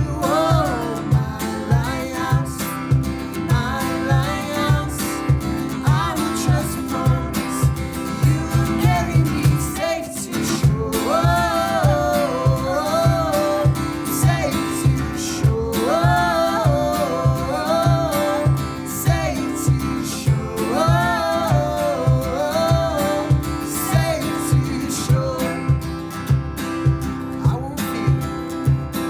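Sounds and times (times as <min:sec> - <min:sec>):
person singing: 0:00.0 - 0:25.9
acoustic guitar music with beat: 0:00.0 - 0:29.0.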